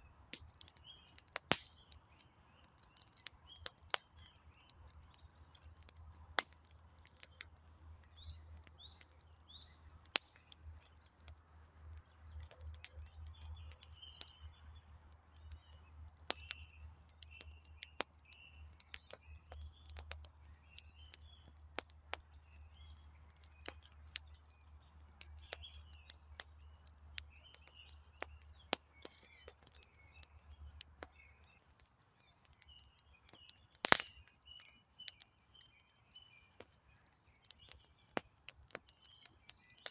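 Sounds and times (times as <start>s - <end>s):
campfire crackling: 0.0s - 39.9s
small birds chirping: 0.0s - 39.9s.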